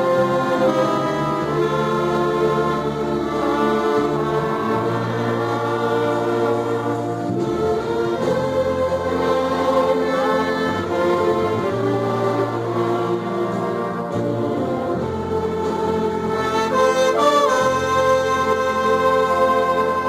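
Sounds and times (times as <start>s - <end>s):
orchestra playing a hymn: 0.0s - 20.0s.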